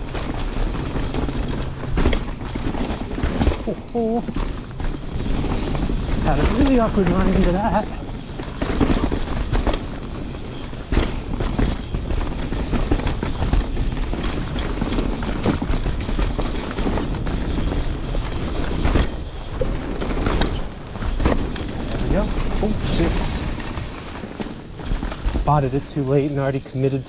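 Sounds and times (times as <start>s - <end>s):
bike knocking over bumps: 0.0s - 25.6s
bike tyres and rattle on dirt: 0.0s - 27.0s.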